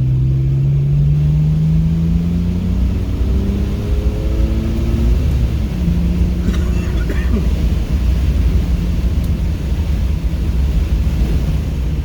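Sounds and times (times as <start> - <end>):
car engine accelerating: 0.0 - 12.0
road and wind rumble: 0.0 - 12.0.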